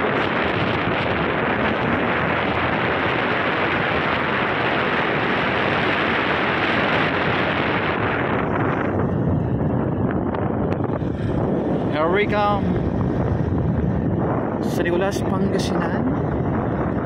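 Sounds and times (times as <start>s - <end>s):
motorcycle road noise: 0.0s - 17.0s
wind rushing over microphone: 0.0s - 17.0s.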